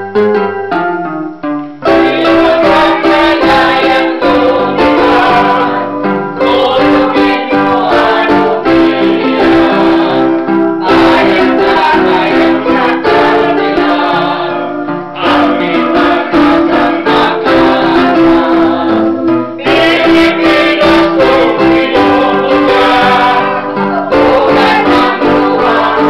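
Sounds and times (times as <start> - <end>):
electronic keyboard: 0.0 - 26.0
group of voices singing: 1.9 - 26.0.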